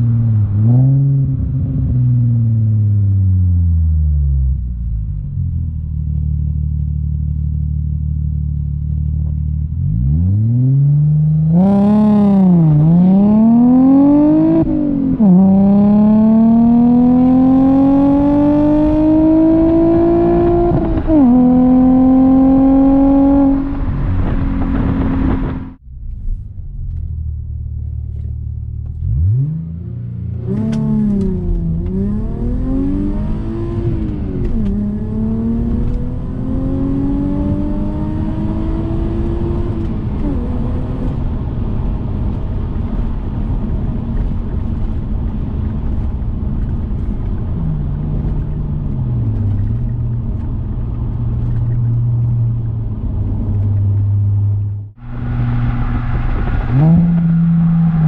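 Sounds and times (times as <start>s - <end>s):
car engine revving: 6.0s - 58.0s.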